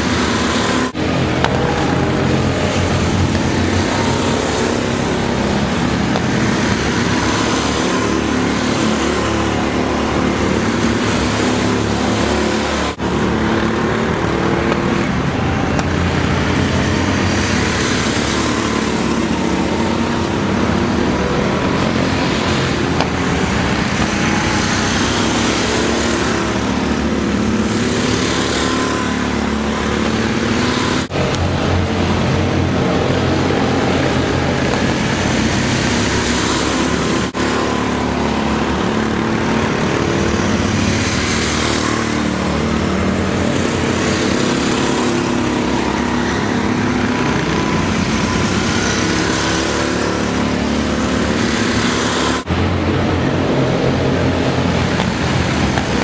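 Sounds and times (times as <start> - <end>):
go-kart engines running: 0.0 - 56.0.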